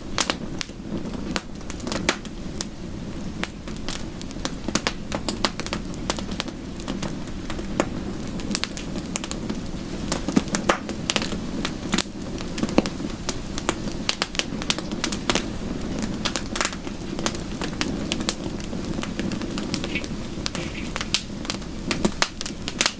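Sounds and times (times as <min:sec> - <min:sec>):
wood fire crackling: 0:00.0 - 0:22.9.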